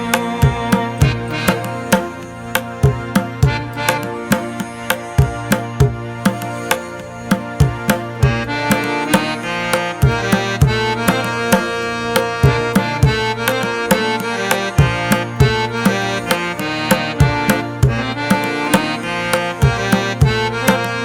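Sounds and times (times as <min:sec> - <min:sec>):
hand drums: 0:00.0 - 0:21.0
percussive instrumental music: 0:00.0 - 0:21.0.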